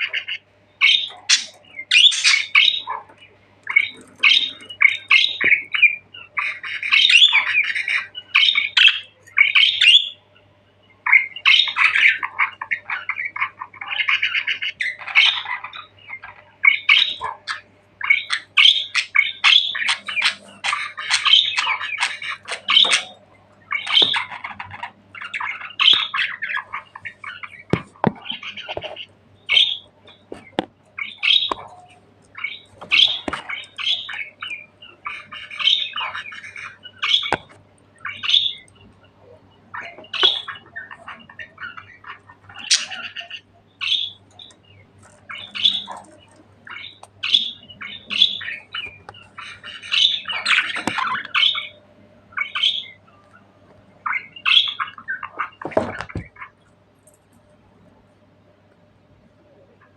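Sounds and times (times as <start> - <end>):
budgerigars chirping and squawking: 0.0 - 57.3.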